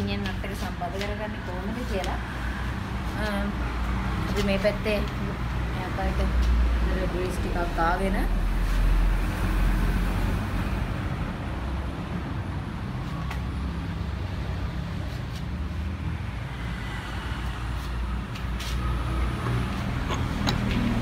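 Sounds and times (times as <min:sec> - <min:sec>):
low rumble of motor vehicle: 0:00.0 - 0:21.0.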